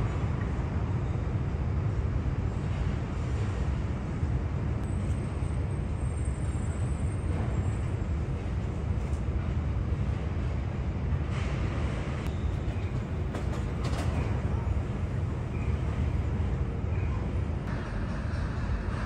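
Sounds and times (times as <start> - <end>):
city traffic rumble: 0.0 - 19.0
trains rumbling: 0.0 - 19.0.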